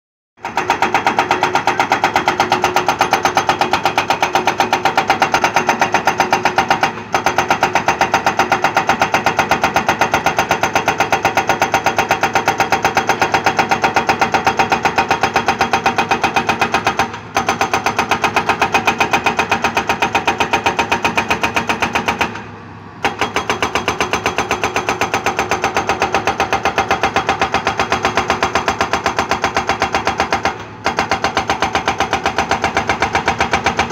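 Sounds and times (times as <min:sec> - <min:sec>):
hydraulic breaker hammer pounding rock: 0:00.4 - 0:33.9.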